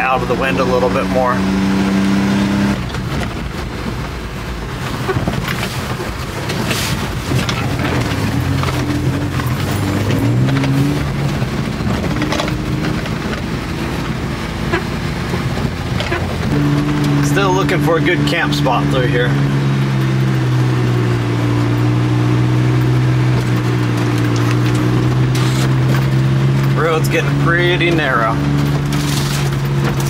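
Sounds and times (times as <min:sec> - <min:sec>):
road and wind noise: 0:00.0 - 0:30.0
small truck engine running: 0:04.7 - 0:30.0.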